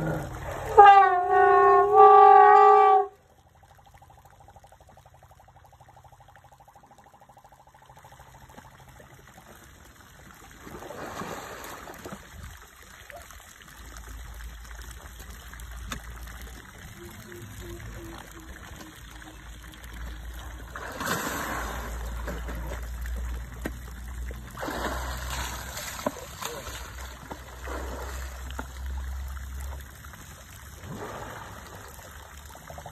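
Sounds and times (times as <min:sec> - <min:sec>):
water sloshing around elephants: 0:00.0 - 0:03.1, 0:08.4 - 0:32.9.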